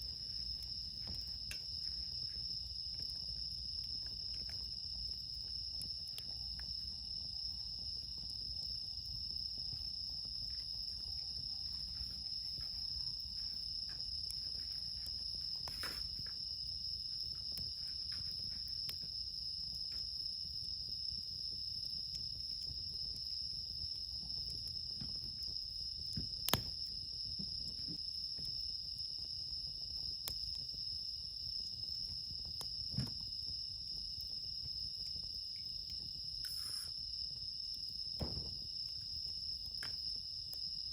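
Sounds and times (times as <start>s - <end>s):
campfire crackling: 0.0s - 40.9s
night insects trilling: 0.0s - 40.9s.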